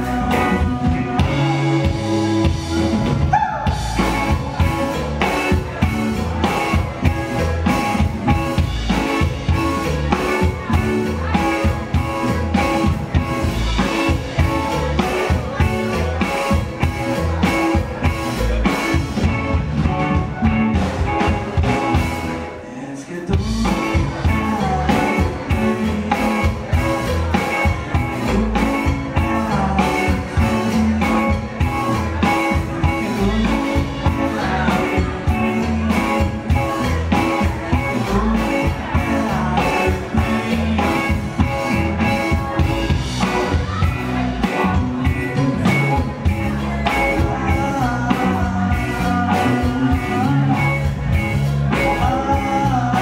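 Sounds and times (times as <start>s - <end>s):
man singing: 0.0s - 19.6s, 20.2s - 53.0s
live rock band playing: 0.0s - 53.0s.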